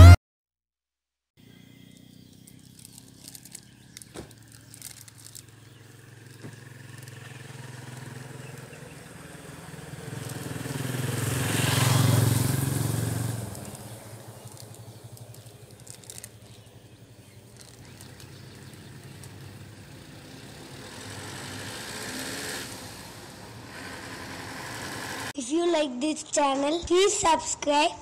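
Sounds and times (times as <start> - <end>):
motor vehicle passing: 1.4 - 25.4.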